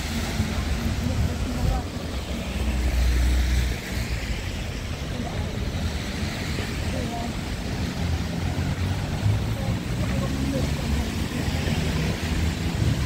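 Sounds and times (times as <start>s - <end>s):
faint voices of passers-by: 0.0s - 13.0s
low street rumble and hiss: 0.0s - 13.0s.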